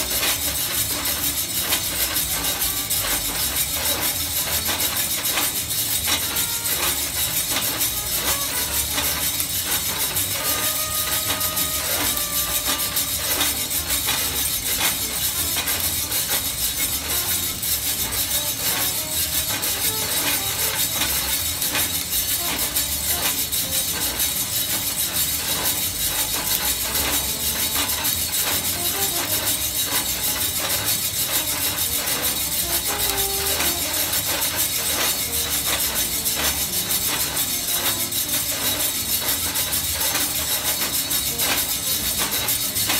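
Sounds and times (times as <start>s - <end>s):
coffee beans tumbling in drum: 0.0s - 42.9s
coffee roaster hiss: 0.0s - 42.9s.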